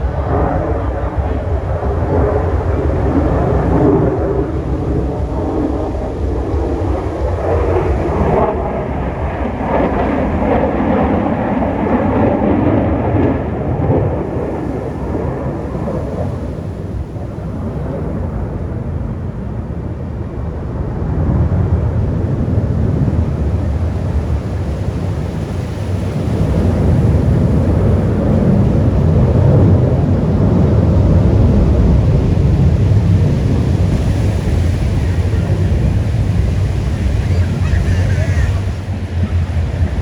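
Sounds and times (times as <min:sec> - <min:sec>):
aircraft flying over: 0:00.0 - 0:40.0.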